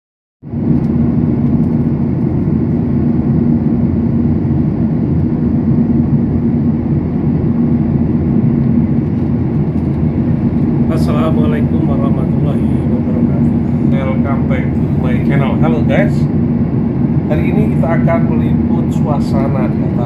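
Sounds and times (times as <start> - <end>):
airliner cabin drone: 0.4 - 20.0
constant low hum: 0.4 - 20.0.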